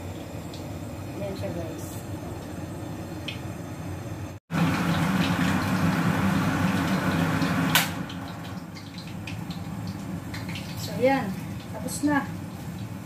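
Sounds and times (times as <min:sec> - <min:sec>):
meat deep-frying in hot oil: 0:00.0 - 0:13.0.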